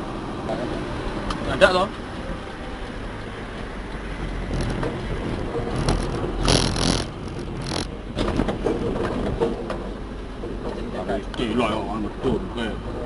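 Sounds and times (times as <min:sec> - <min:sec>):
diesel machinery rumbling: 0:00.0 - 0:13.0.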